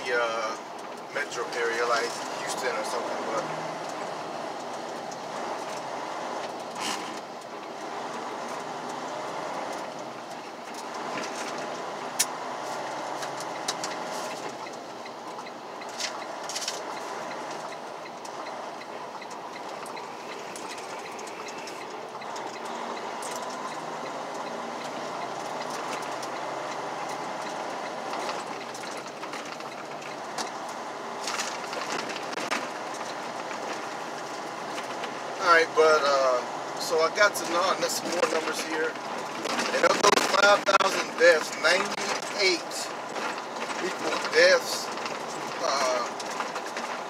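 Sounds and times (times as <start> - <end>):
truck engine and road rumble: 0.0 - 47.0
clicks and rattles: 0.7 - 35.3, 37.1 - 47.0.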